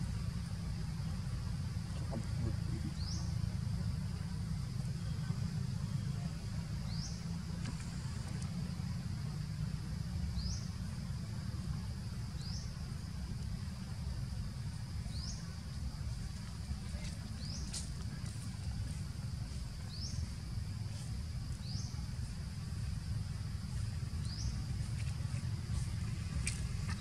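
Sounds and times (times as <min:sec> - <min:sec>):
high insect drone: 0:00.0 - 0:27.0
steady low rumble: 0:00.0 - 0:27.0.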